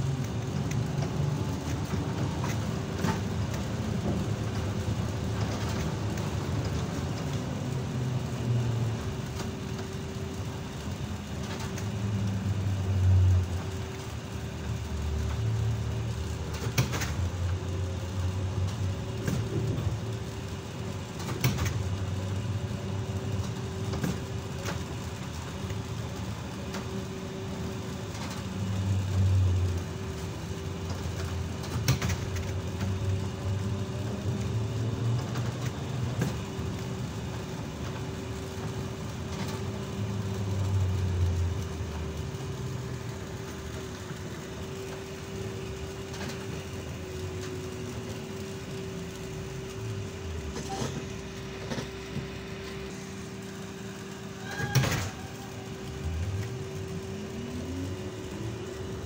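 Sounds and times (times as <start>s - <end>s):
trolleybus humming: 0.0s - 59.0s.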